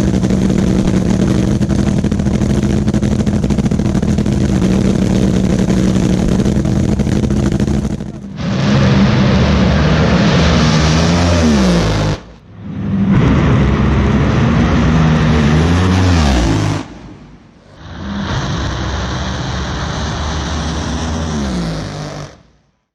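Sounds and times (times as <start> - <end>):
dragster engine roaring: 0.0 - 22.9.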